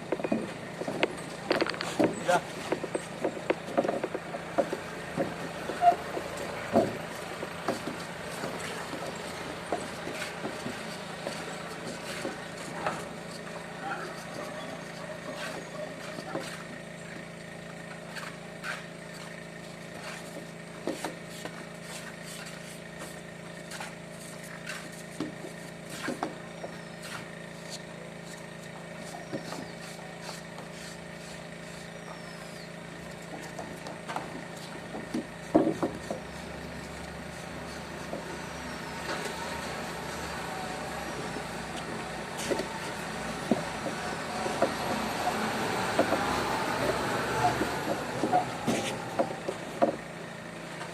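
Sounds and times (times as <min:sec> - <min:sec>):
vehicle engine humming: 0:00.0 - 0:50.9.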